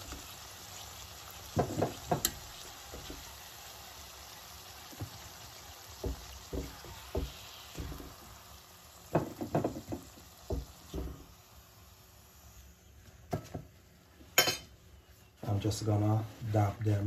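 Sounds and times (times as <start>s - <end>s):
oil sizzling: 0.0s - 16.0s.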